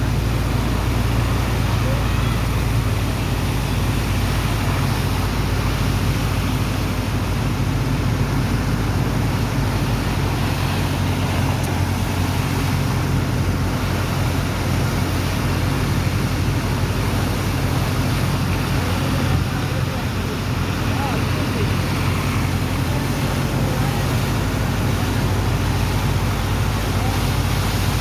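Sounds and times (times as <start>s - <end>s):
diesel engine drone: 0.0s - 28.0s
water pump rushing: 0.0s - 28.0s.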